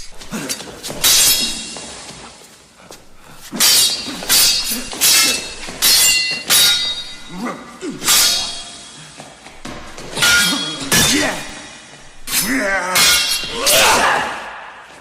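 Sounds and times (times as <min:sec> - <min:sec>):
metal swords clashing: 0:00.0 - 0:02.2, 0:02.9 - 0:14.8.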